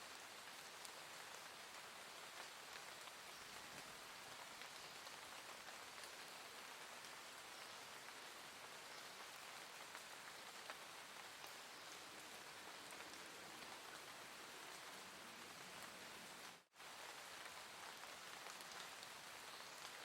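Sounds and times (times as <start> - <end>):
gentle rain falling: 0.0 - 20.0.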